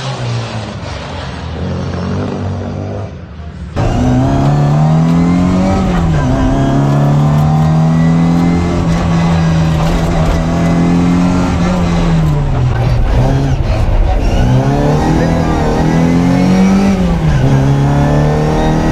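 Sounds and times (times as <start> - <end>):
car engine at high revs: 0.0 - 18.9.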